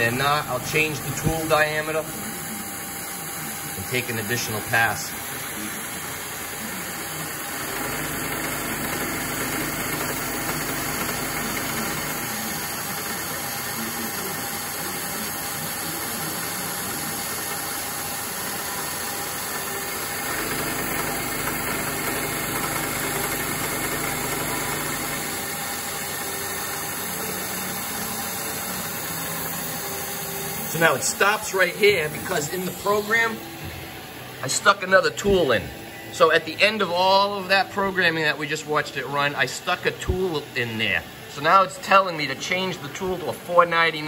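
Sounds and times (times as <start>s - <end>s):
milling machine cutting steel: 0.0s - 35.5s.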